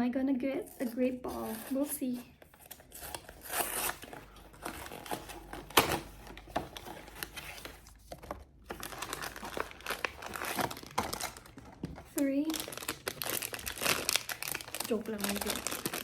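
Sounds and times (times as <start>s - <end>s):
packaging crinkling and tearing: 2.4s - 16.0s.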